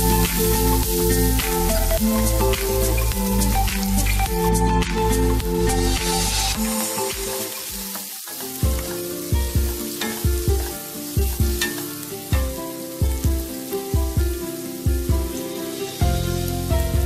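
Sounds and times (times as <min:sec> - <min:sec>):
background music with low beat: 0:00.0 - 0:07.9, 0:08.6 - 0:15.4, 0:16.0 - 0:17.0
onions sizzling in oil: 0:00.0 - 0:17.0.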